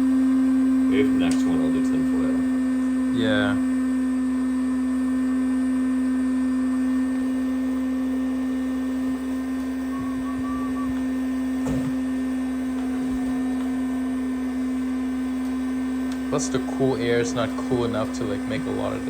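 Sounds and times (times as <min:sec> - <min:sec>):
electric blower motor hum: 0:00.0 - 0:19.0.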